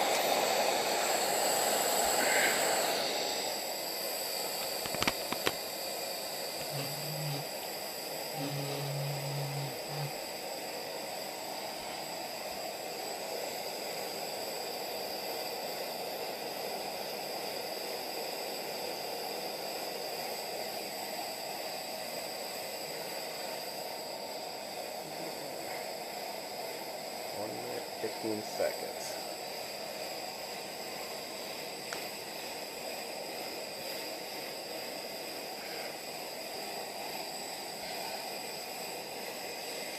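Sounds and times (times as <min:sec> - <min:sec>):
stove burner rushing: 0:00.0 - 0:39.9.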